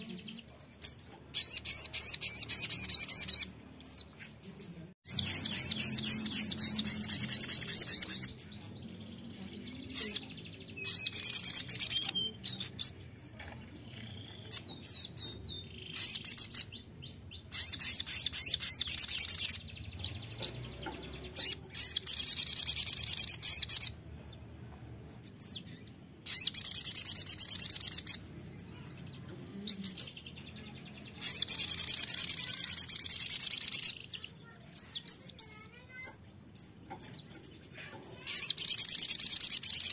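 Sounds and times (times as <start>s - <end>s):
soft bird chirps: 0.0s - 39.9s
bird high-pitched trilling: 0.8s - 4.1s, 5.0s - 13.0s, 14.0s - 24.0s, 25.2s - 29.0s, 29.8s - 39.9s.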